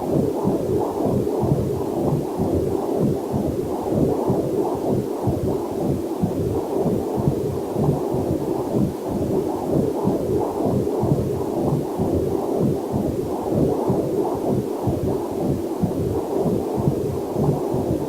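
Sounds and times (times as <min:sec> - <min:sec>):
fetal heartbeat whooshing pulse: 0:00.0 - 0:18.0.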